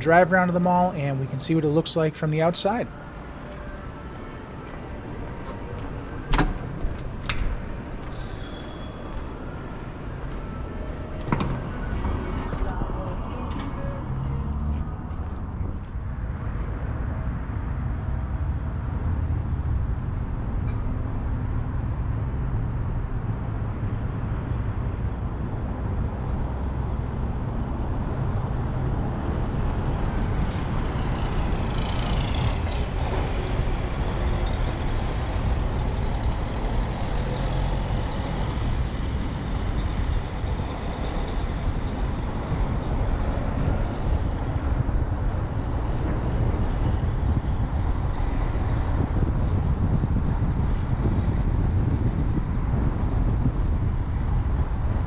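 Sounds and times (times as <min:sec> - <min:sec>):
truck passing by: 0:02.6 - 0:17.4, 0:18.3 - 0:55.0
car driving low rumble: 0:09.2 - 0:55.0.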